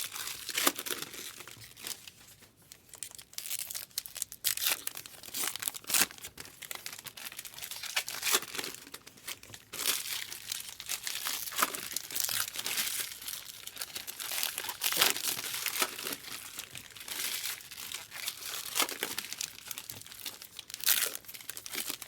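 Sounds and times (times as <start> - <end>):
foil wrappers crinkling and tearing: 0.0 - 22.0.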